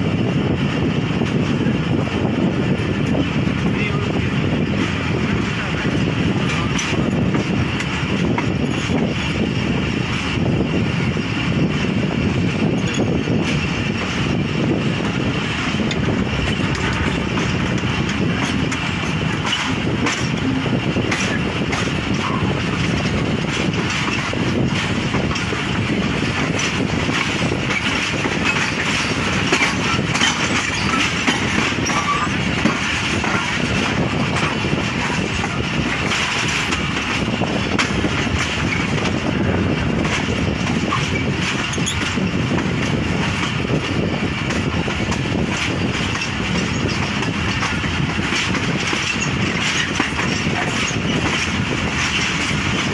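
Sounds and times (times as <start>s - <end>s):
train wheels rumbling on rail: 0.0s - 52.9s
wheels clicking over rail joints: 4.8s - 52.9s.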